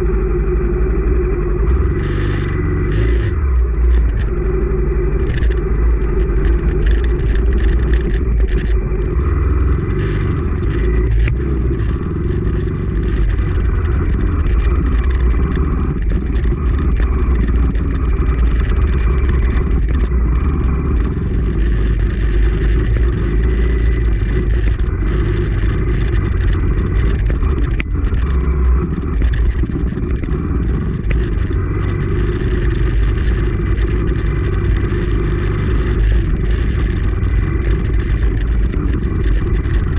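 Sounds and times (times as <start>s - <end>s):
motorcycle engine revving: 0.0s - 39.9s
knocks and clatter over rocks: 1.7s - 39.9s.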